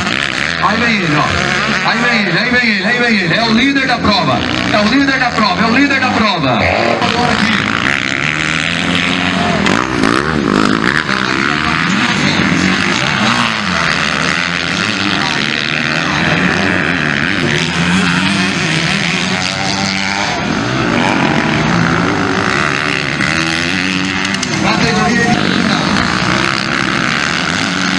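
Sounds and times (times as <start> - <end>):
motocross bike engines revving: 0.0 - 27.9.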